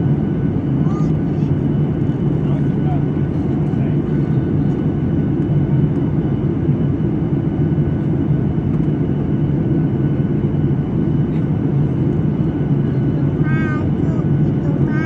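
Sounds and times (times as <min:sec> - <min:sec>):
jet engine drone: 0:00.0 - 0:15.0.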